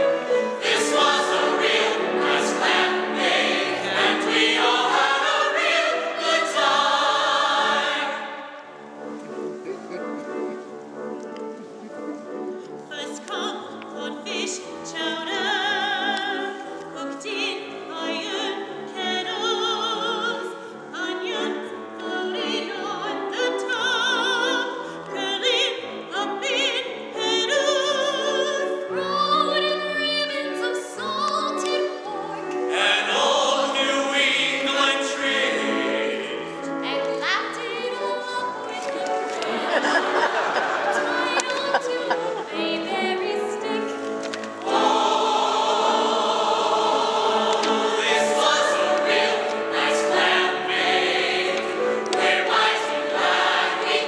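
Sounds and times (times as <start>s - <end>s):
instrumental accompaniment: 0.0s - 20.4s, 21.2s - 54.0s.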